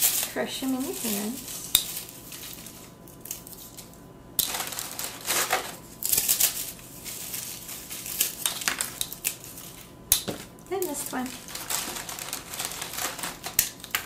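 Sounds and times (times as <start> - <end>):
crackers being crushed by hand: 0.0 - 14.0.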